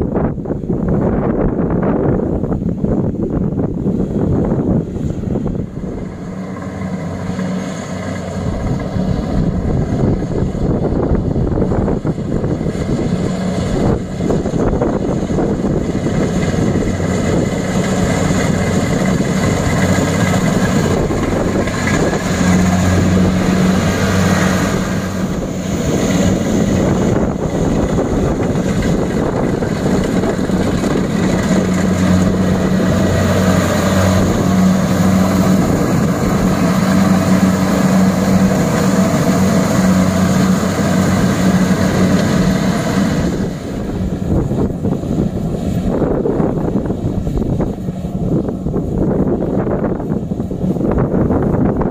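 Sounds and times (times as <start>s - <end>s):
combine harvester engines droning: 0.0s - 51.9s
threshing gear rushing: 4.0s - 51.9s.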